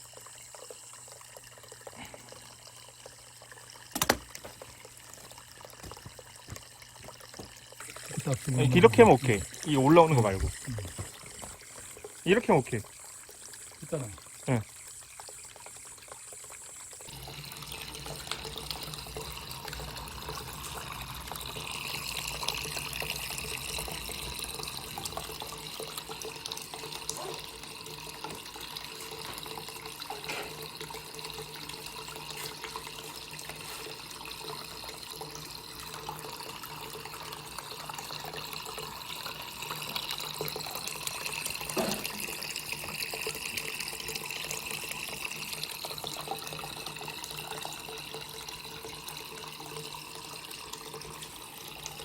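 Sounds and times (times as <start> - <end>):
water trickling and splashing: 0.0 - 52.0.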